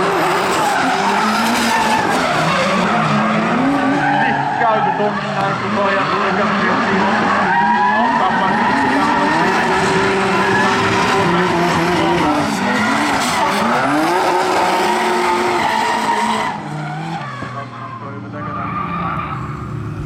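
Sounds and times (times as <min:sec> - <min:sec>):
car engines revving: 0:00.0 - 0:20.0
tyres skidding and squealing: 0:00.0 - 0:20.0.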